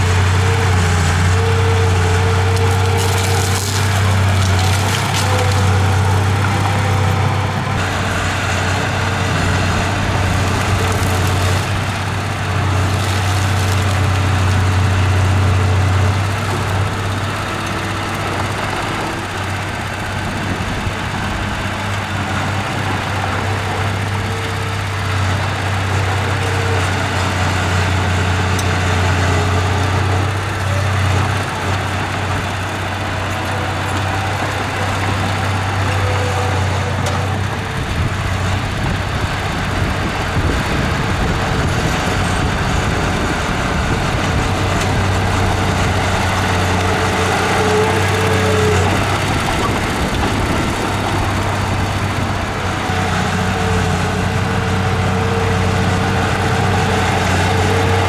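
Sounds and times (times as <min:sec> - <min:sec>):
heavy machinery diesel engine running: 0:00.0 - 0:58.0.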